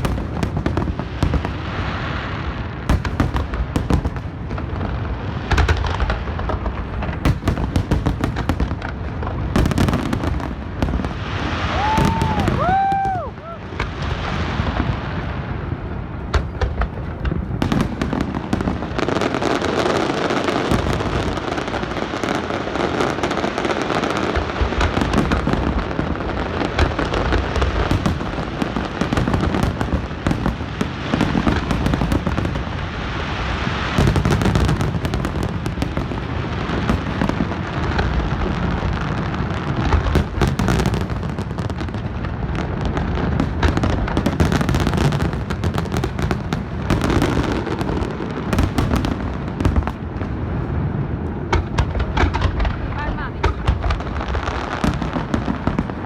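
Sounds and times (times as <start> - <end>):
fireworks booms and crackle: 0.0 - 56.0.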